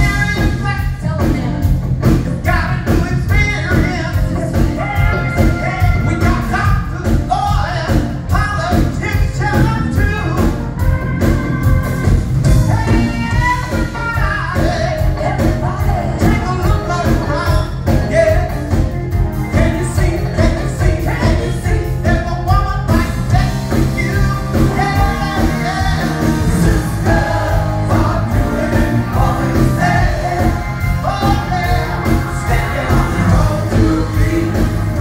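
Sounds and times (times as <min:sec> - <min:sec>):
drums: 0:00.0 - 0:35.0
keyboards: 0:00.0 - 0:35.0.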